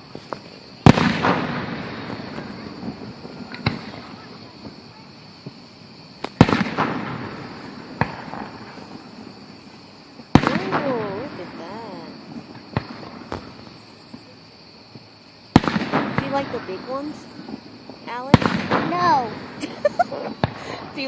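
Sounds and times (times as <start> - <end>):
small fireworks pops: 0.0 - 9.1, 9.8 - 21.0
fireworks booming with crackling echo: 0.0 - 21.0.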